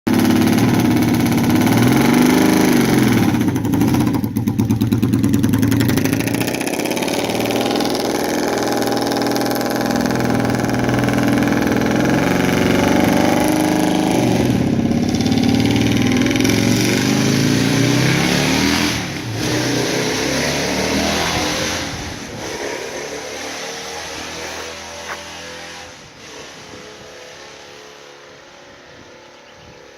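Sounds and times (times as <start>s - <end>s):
engine revving: 0.1s - 29.1s.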